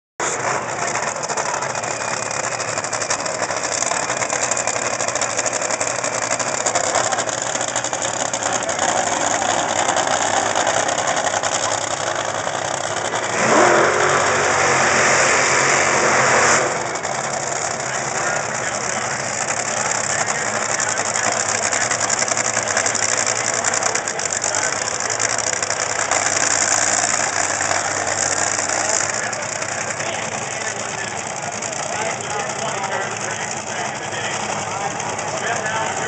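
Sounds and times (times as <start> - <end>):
dragster engines roaring: 0.2 - 36.0.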